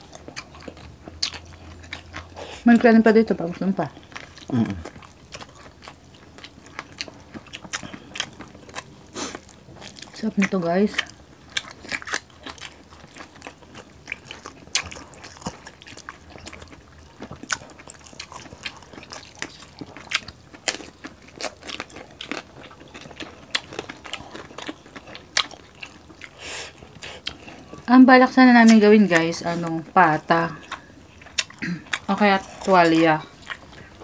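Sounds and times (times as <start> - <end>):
chewing and crunching crispy pork: 0.0 - 34.0.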